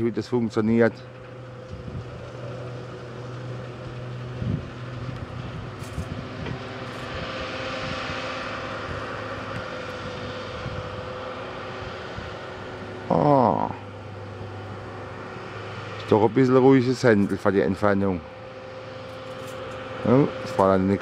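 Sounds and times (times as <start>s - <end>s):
distant harvester engine hum: 0.0s - 21.0s.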